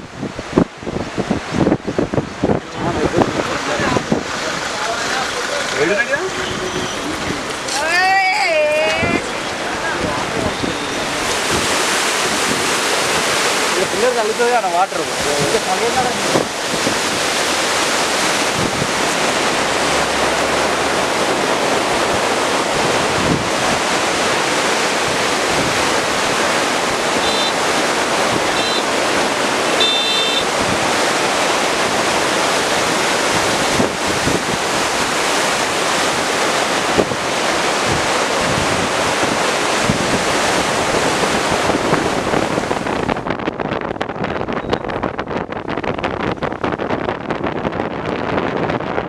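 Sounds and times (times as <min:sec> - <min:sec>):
flood water rushing: 0:00.0 - 0:49.0
wind buffeting microphone: 0:00.0 - 0:49.0.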